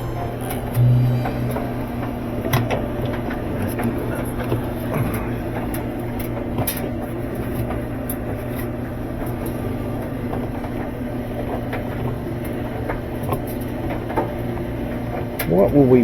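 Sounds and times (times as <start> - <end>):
low hum: 0.0 - 15.2.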